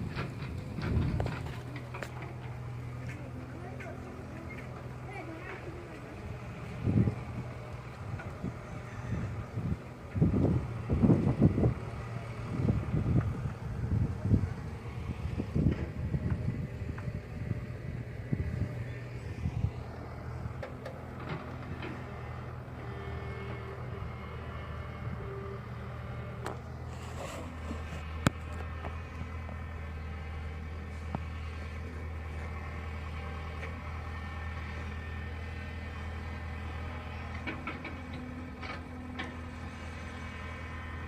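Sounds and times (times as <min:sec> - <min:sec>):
diesel excavator engine running: 0:00.0 - 0:41.0.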